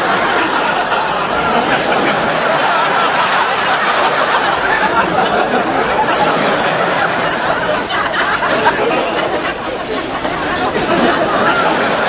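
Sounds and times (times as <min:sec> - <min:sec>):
babble of many voices: 0:00.0 - 0:12.0
laughter: 0:00.0 - 0:12.0.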